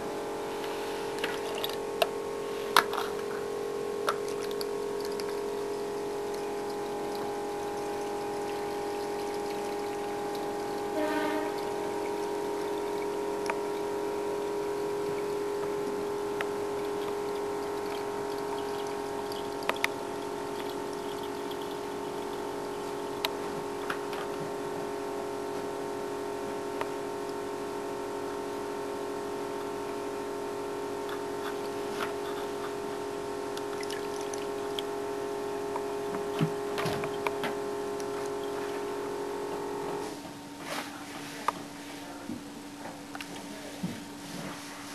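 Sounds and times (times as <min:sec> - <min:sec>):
mechanical whine: 0:00.0 - 0:40.2.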